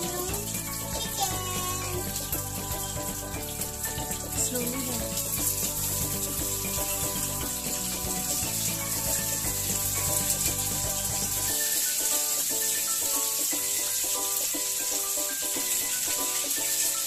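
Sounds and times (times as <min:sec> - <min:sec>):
background music: 0:00.0 - 0:17.0
chicken sizzling in hot oil: 0:00.0 - 0:17.0.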